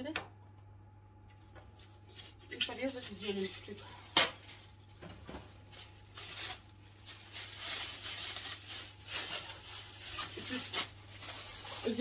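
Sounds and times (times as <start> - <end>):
plastic bag rustling: 1.6 - 12.0.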